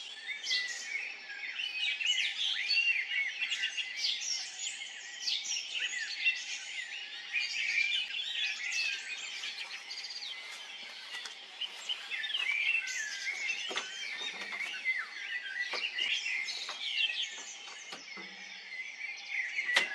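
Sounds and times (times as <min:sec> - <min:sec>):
songbirds chirping and singing: 0:00.0 - 0:19.9.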